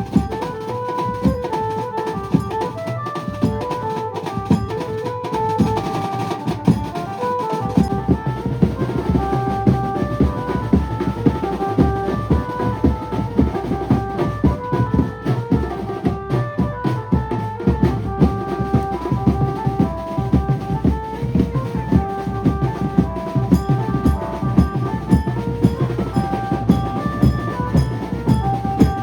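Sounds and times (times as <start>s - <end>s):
band melody of held notes: 0.0s - 29.0s
fast bass drum and snare drumming: 0.0s - 29.0s.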